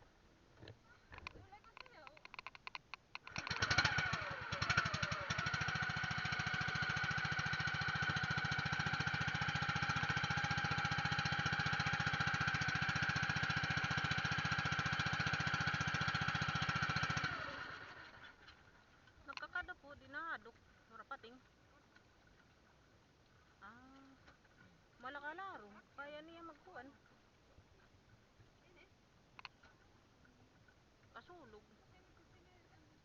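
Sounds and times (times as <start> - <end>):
boat engine pulsing: 0.0 - 33.0.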